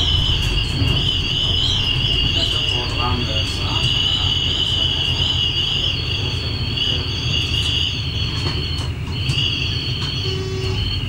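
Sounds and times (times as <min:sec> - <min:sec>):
high-pitched wheel squeal: 0:00.0 - 0:11.0
train low rumble: 0:00.0 - 0:11.0.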